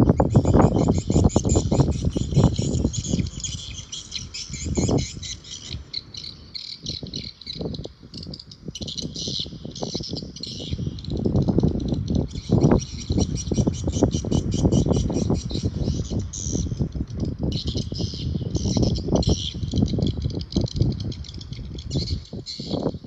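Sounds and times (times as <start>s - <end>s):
small birds chirping: 0.0s - 23.0s
wind gusting on microphone: 0.0s - 23.0s.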